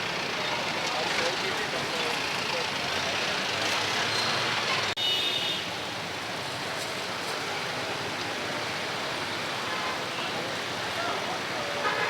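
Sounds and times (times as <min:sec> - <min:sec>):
busy street traffic: 0:00.0 - 0:12.0.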